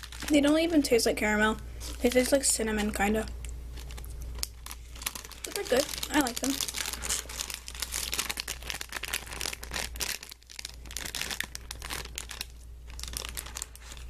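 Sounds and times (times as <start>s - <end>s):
plastic packet crinkling: 0.0s - 14.0s.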